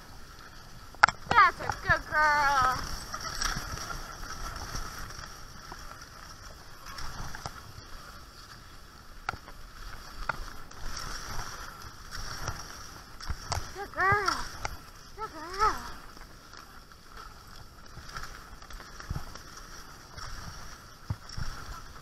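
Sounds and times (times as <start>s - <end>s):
skis hissing over packed snow: 0.0s - 22.0s.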